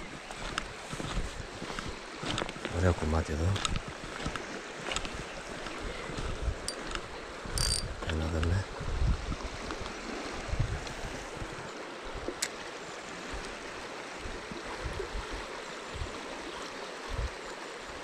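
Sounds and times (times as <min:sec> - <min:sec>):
river water rushing over gravel: 0:00.0 - 0:08.6, 0:09.5 - 0:18.0.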